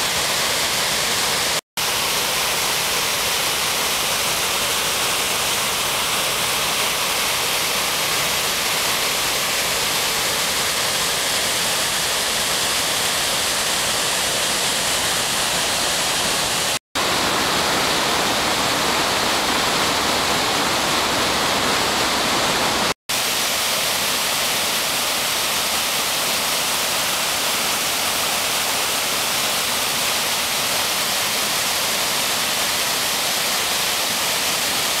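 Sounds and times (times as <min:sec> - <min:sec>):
creek rushing: 0:00.0 - 0:35.0
waterfall rushing: 0:00.0 - 0:35.0.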